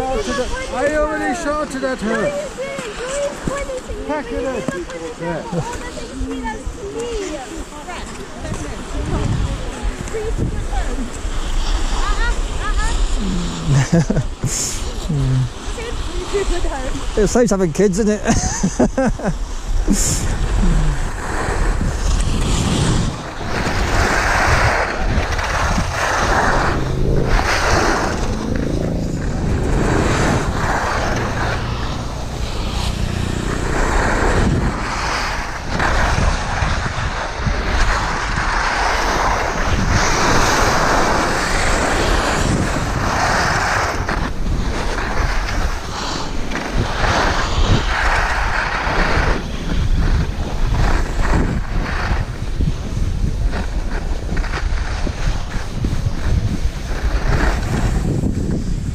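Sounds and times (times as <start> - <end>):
skis scraping over snow: 0.0 - 58.9
wind rushing over microphone: 0.0 - 58.9.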